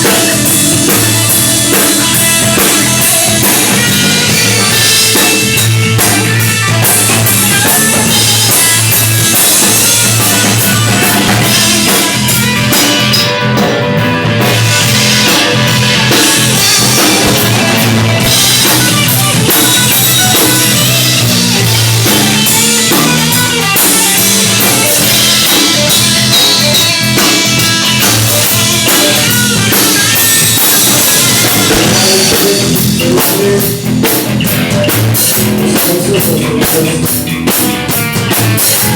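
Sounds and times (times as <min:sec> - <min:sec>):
rock and roll band playing: 0:00.0 - 0:38.9.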